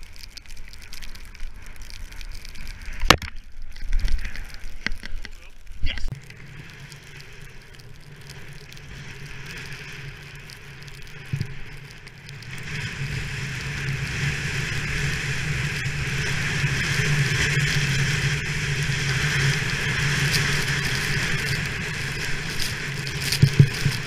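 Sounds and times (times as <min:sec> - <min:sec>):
skis sliding over snow: 0:00.0 - 0:24.0
wind rushing over camera: 0:00.0 - 0:24.0.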